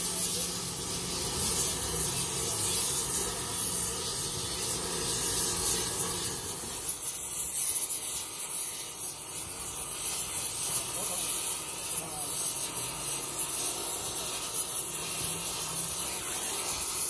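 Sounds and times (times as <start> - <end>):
welding torch flame hissing: 0.0 - 17.0.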